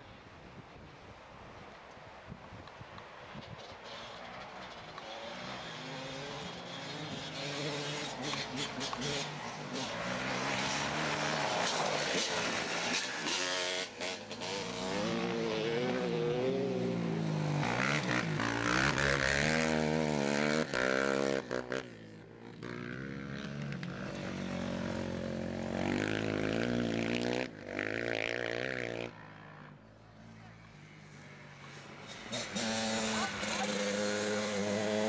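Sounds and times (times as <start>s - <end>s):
motorbike and quad engines revving: 3.3s - 35.0s.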